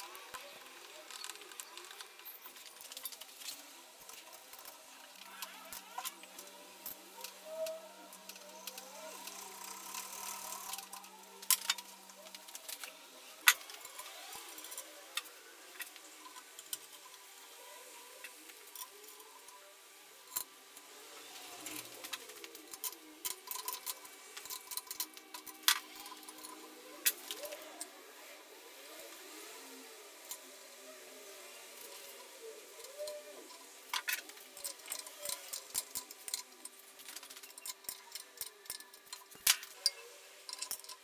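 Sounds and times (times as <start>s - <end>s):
metal parts clicking: 0.0s - 29.4s, 30.2s - 41.0s.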